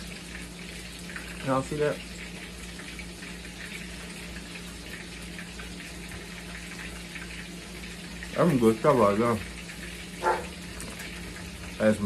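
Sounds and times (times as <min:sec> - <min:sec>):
fish frying in grease: 0:00.0 - 0:12.0.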